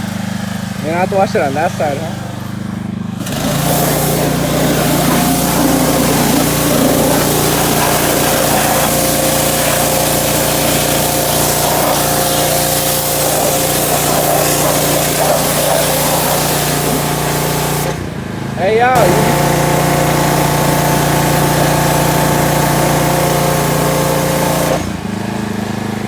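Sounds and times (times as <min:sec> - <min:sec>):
water jet hissing: 0:00.0 - 0:25.1
pressure washer motor drone: 0:00.0 - 0:26.0.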